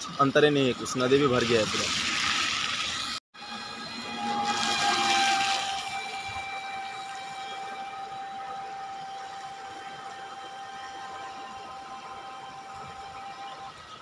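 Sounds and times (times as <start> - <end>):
faint high whine: 2.6 - 14.0.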